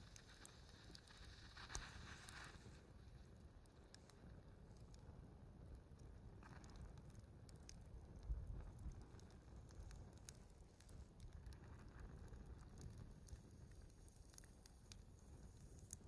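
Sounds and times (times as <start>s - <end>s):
low fire hiss: 0.0s - 16.0s
wood fire crackling and popping: 0.0s - 16.0s.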